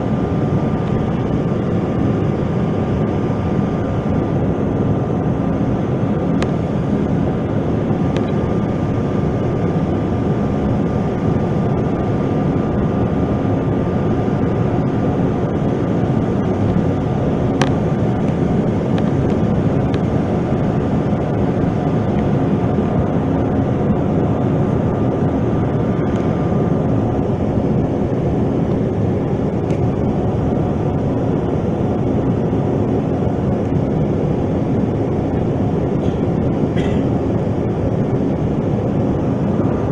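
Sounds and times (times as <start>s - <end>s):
jet cabin roar: 0.0s - 39.9s.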